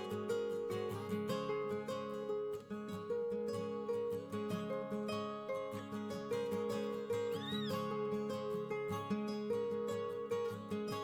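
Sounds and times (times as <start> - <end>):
plucked guitar melody: 0.0 - 11.0.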